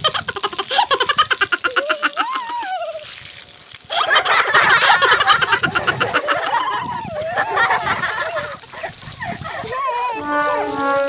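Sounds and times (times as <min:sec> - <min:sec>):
water from garden hose splashing: 0:00.0 - 0:11.0.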